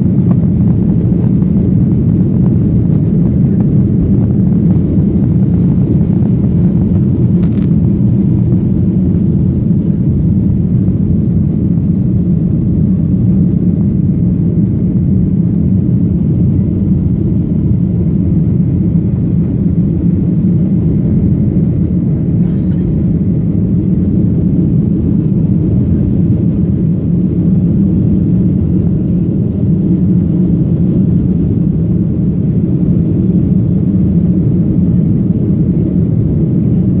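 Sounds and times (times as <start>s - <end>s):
jet engine rumble in cabin: 0.0s - 37.0s.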